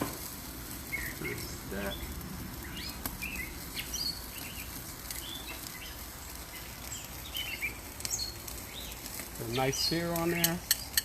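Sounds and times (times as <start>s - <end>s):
birds chirping: 0.0s - 11.0s
steak sizzling on grill: 0.0s - 11.0s.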